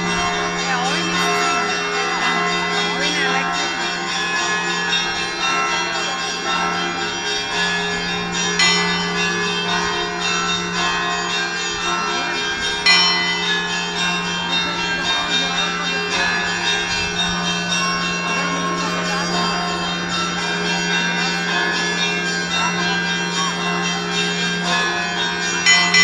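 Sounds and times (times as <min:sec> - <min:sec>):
church bells ringing: 0:00.0 - 0:26.0
heavy bell strokes: 0:00.0 - 0:26.0.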